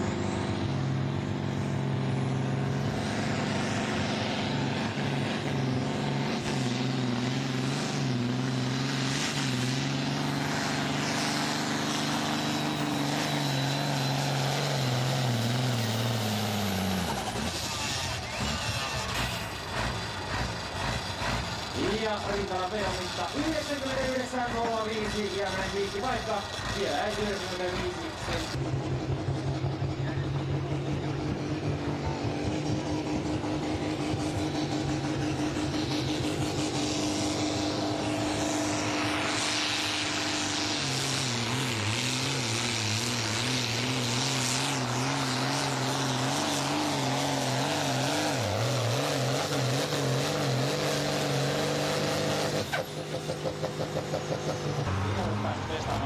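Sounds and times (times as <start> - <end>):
diesel tractor engine droning: 0.0 - 56.0.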